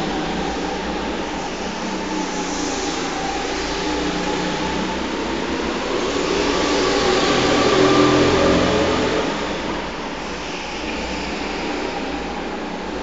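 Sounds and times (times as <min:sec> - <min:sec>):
go-kart engines humming: 0:00.0 - 0:13.0.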